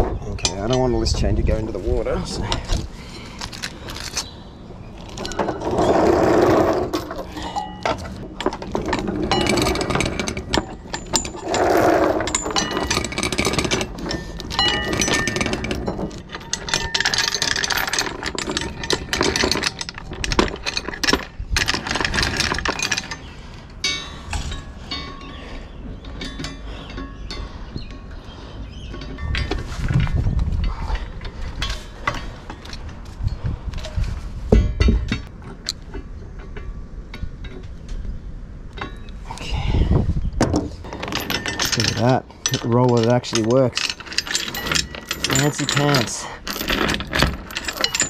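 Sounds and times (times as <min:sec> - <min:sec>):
metal chain rattling and clinking: 0:00.2 - 0:04.3, 0:04.9 - 0:37.6, 0:40.8 - 0:48.0.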